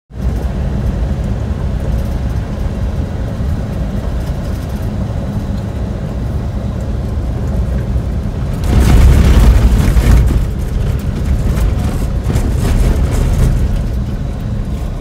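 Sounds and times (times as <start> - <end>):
vehicle rumble on dirt road: 0.1 - 15.0.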